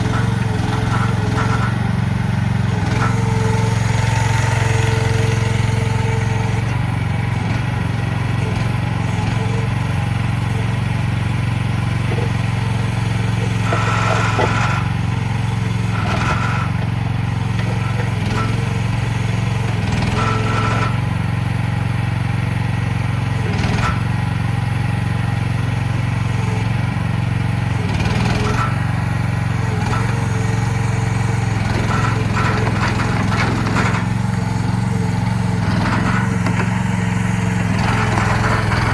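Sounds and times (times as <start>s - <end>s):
small excavator engine running: 0.0s - 38.9s.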